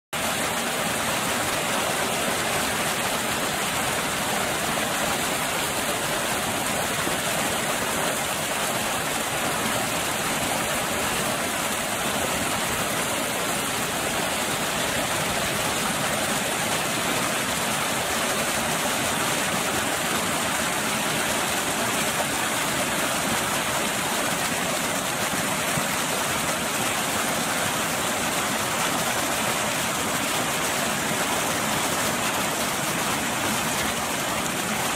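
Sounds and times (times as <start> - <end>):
water rushing over weir: 0.2 - 34.9.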